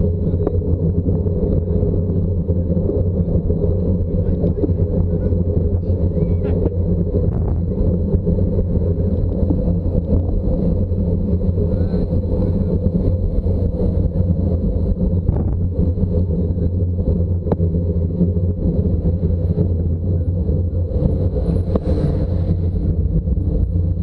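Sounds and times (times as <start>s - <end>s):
vehicle rumble: 0.0s - 24.0s.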